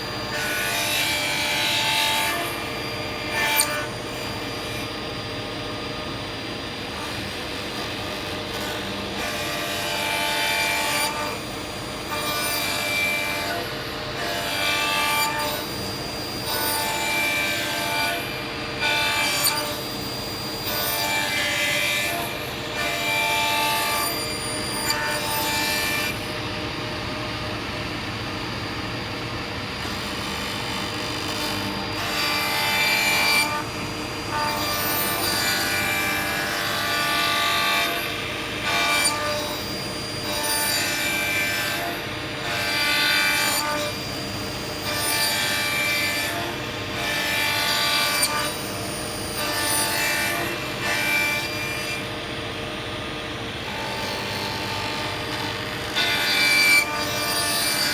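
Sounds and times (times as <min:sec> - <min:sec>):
table saw cutting wood: 0:00.0 - 0:06.2, 0:06.8 - 0:26.6, 0:29.8 - 0:57.9.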